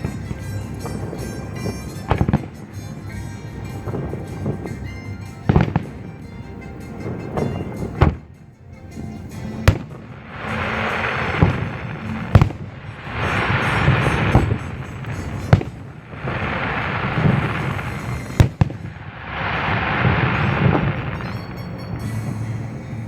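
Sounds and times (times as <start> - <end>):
crackling firework stars: 0.0 - 23.0
faint music: 0.0 - 23.0
firework shell bursts: 0.0 - 23.0.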